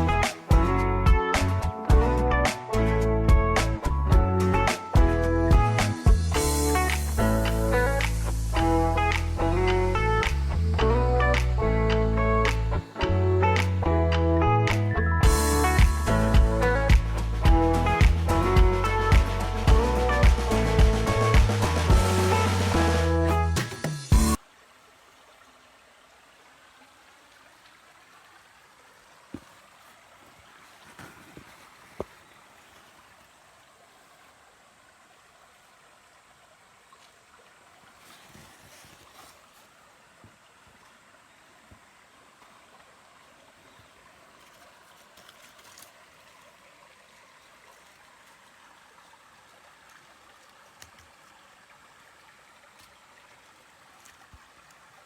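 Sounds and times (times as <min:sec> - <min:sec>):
mountain stream running: 0:00.0 - 0:55.0.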